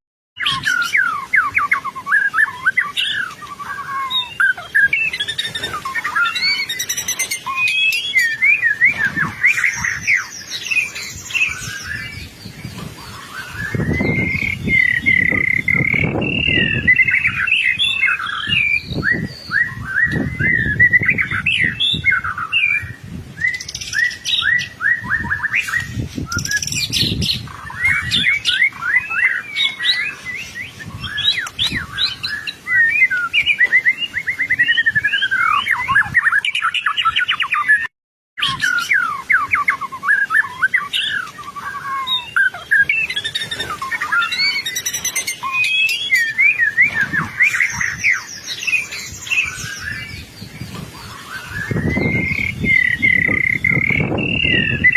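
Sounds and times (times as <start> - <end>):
bird singing whistles and trills: 0.4 - 54.9.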